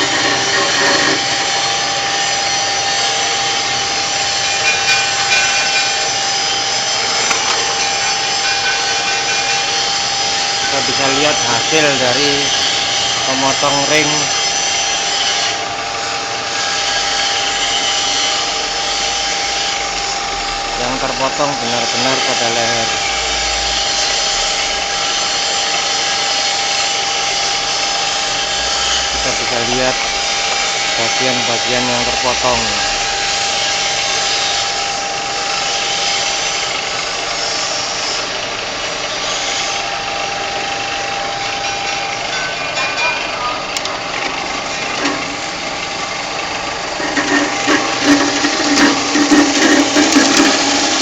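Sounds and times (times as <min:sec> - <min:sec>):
cutting machine motor whine: 0:00.0 - 0:42.5, 0:43.4 - 0:51.0.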